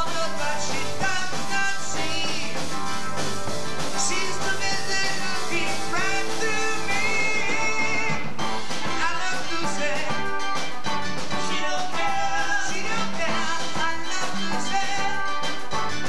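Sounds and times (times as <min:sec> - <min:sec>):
drum kit: 0:00.0 - 0:16.0
electric guitar: 0:00.0 - 0:16.0
keyboard: 0:00.0 - 0:16.0.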